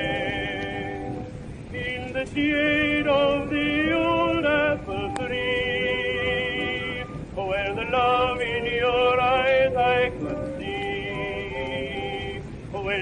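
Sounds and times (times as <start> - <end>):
old phonograph song: 0.0 - 13.0.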